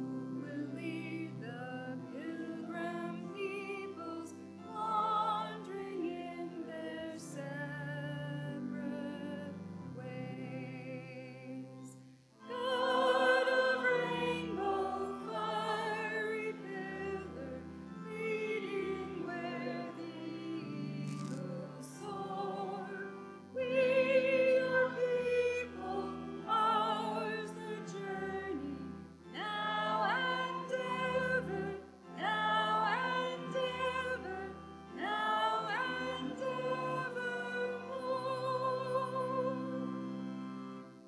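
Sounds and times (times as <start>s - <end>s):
hymn singing with vibrato: 0.0s - 40.9s
sustained accompaniment with bass: 0.0s - 41.0s.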